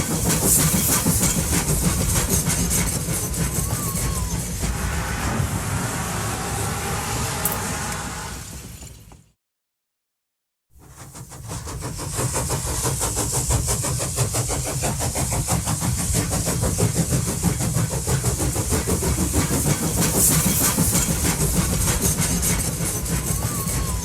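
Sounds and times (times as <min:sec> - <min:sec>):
locomotive running with hiss: 0:00.0 - 0:09.3, 0:10.8 - 0:24.0.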